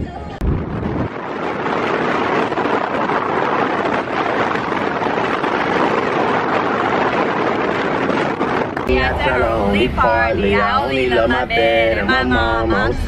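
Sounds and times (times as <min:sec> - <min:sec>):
wind and road noise inside car: 0:00.0 - 0:13.0.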